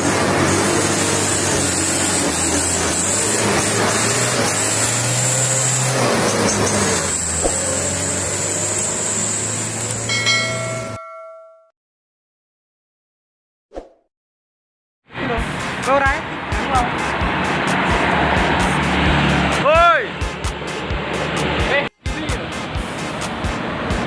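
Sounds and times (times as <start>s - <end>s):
truck engine running: 0.0s - 10.9s, 15.2s - 24.0s.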